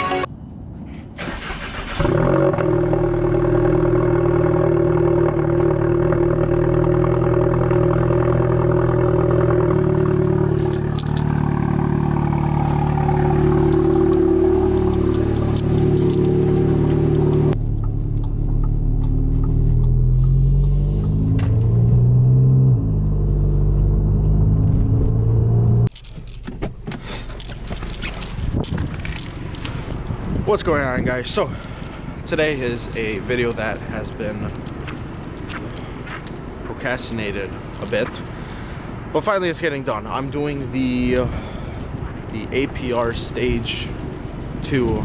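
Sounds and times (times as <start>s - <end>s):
car engine idling and revving: 0.5s - 45.0s
car engine starting: 0.9s - 45.0s.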